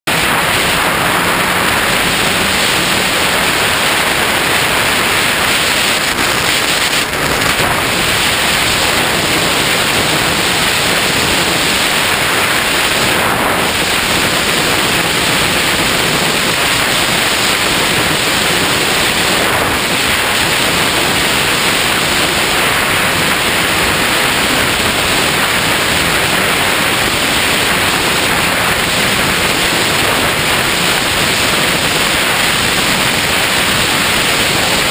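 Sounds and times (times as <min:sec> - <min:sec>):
wind rushing over camera: 0:00.1 - 0:34.9.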